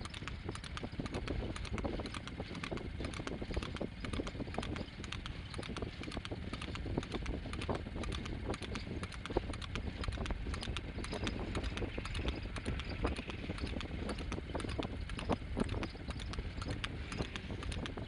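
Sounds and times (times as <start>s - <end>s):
cart rumble: 0.0s - 18.0s
hoofbeats on asphalt: 0.0s - 18.0s.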